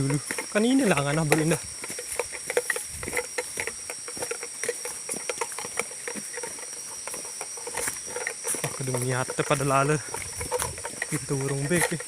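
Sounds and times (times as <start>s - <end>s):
forest insects droning: 0.0s - 12.0s
light ticks and patter: 0.0s - 12.0s.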